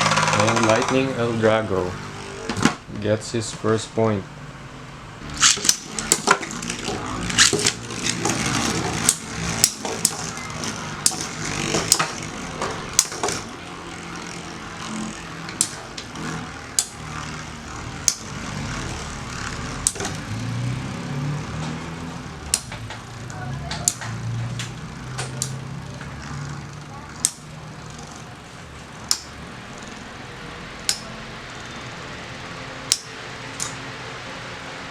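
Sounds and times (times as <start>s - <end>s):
spinning tops clashing clicks: 0.0s - 2.9s, 5.2s - 34.0s
spinning tops whirring: 0.0s - 34.9s.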